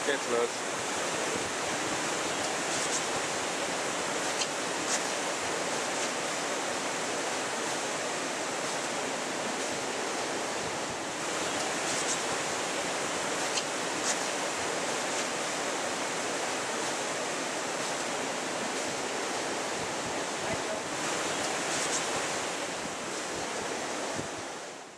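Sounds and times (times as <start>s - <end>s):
water rushing: 0.0s - 24.9s.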